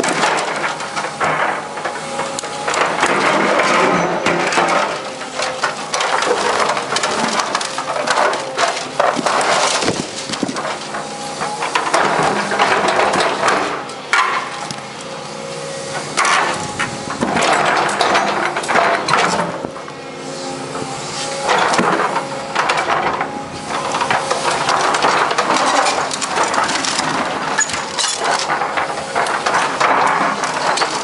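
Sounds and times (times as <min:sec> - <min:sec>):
bucket scraping concrete rubble: 0:00.0 - 0:14.8, 0:16.0 - 0:19.8, 0:21.0 - 0:31.0
diesel engine running: 0:00.0 - 0:31.0.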